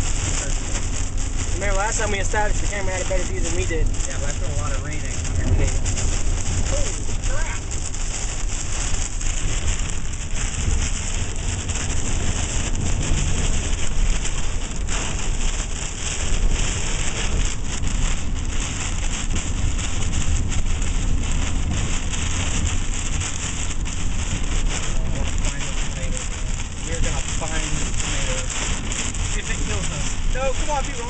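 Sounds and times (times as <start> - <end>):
constant low rumble: 0.0 - 31.0
heavy rain on a vehicle: 0.0 - 31.0.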